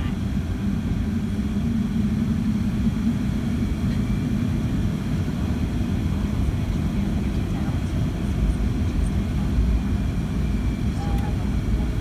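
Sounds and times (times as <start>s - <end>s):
aircraft cabin rumble and hum: 0.0s - 12.0s.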